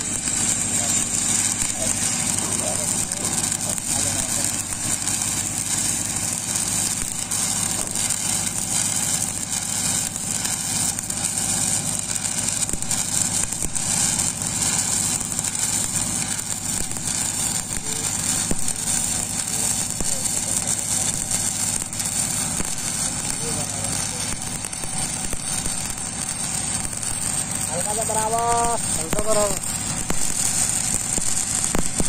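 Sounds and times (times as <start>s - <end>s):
engine running: 0.0s - 32.0s
welding arc crackling: 0.0s - 32.0s.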